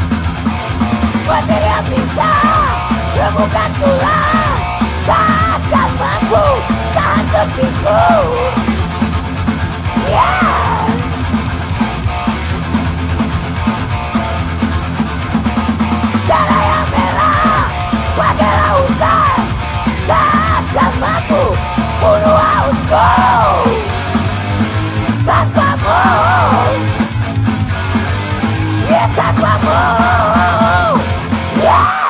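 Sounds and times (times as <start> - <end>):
rock song with drums and bass: 0.0 - 32.0
wavering lead guitar line: 0.0 - 32.0.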